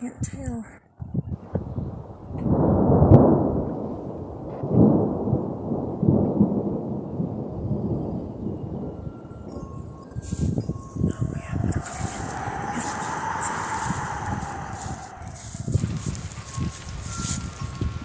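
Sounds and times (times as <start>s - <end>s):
windy thunderstorm rumble: 1.2s - 18.0s.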